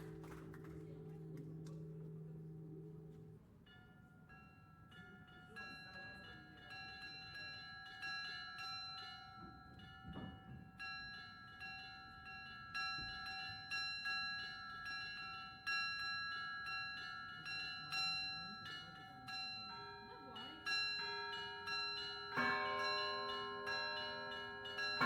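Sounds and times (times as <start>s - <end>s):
church bells ringing: 1.0s - 25.0s.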